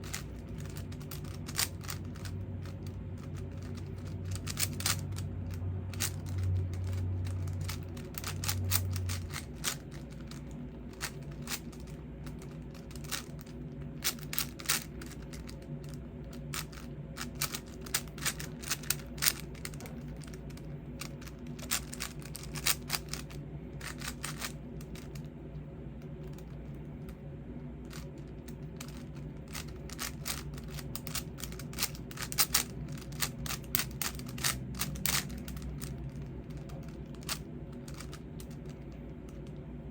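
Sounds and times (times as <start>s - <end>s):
puzzle cube plastic clicks: 0.0s - 25.3s, 28.8s - 39.5s.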